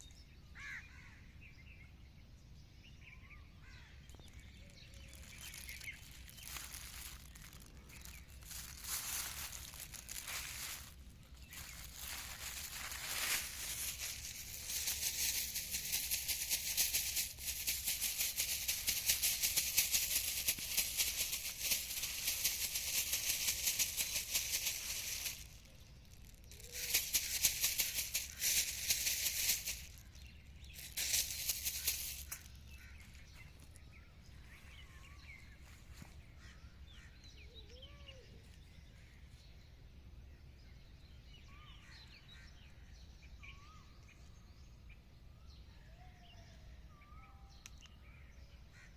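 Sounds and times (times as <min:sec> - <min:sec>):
faint bird chirps: 0:00.0 - 0:15.5, 0:22.7 - 0:48.9.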